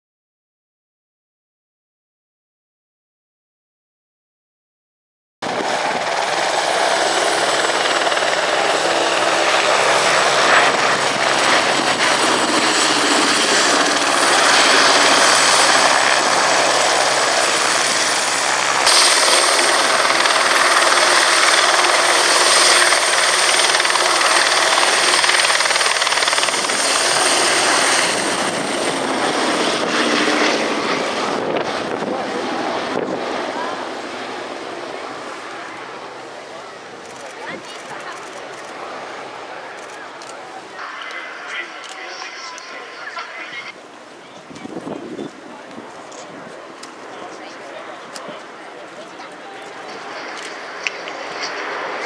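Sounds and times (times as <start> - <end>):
propeller plane engines flying past: 5.4 - 52.0.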